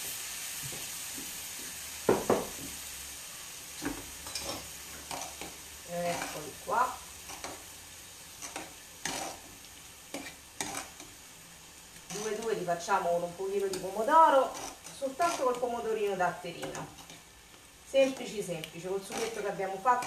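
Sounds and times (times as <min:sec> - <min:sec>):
sauce sizzling in a pan: 0:00.0 - 0:20.0.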